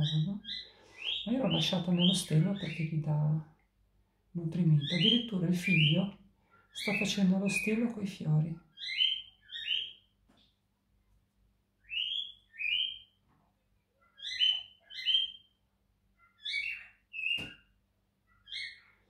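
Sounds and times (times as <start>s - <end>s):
bird chirping: 0.0s - 3.4s, 4.4s - 10.7s, 11.7s - 19.0s.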